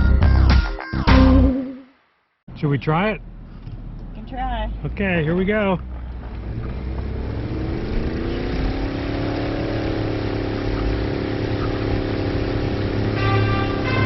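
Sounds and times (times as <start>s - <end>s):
car engine pulling hard: 2.6s - 14.0s.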